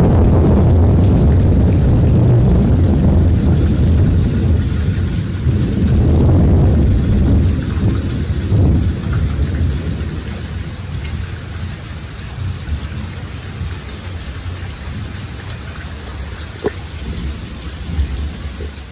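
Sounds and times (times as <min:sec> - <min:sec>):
steady rain hiss: 0:00.0 - 0:18.9
thunder rumbling: 0:00.0 - 0:18.9.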